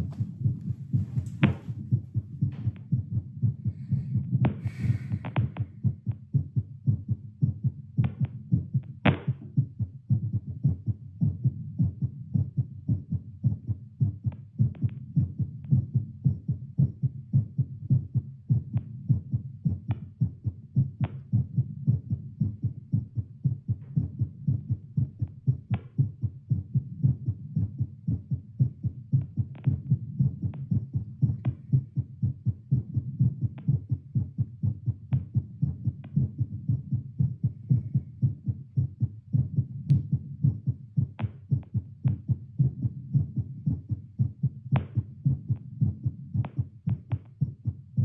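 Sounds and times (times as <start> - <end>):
fast heartbeat through stethoscope: 0.0 - 48.0.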